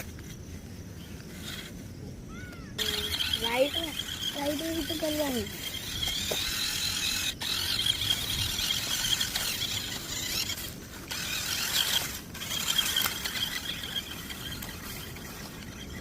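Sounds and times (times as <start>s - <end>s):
toy car motor whining: 1.0s - 16.0s.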